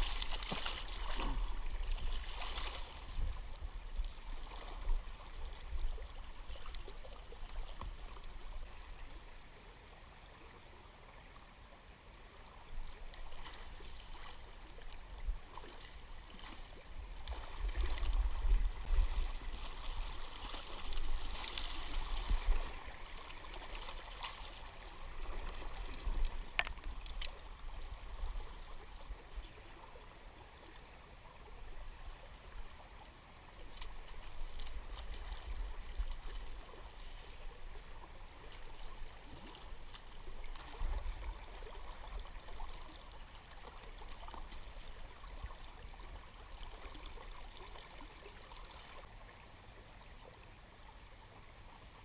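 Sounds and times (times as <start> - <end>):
river water flowing: 0.0 - 52.0.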